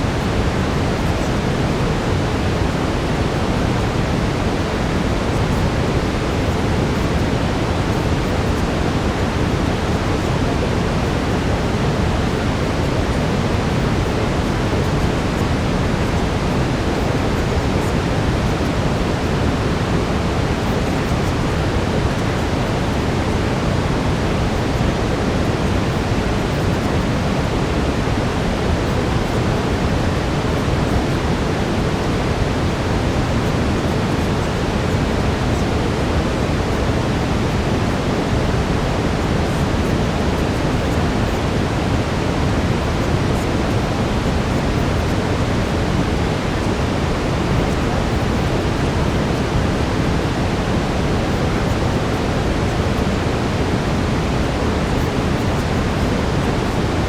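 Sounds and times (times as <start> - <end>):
faint steady tone: 0.0 - 57.0
steady brown noise: 0.0 - 57.0.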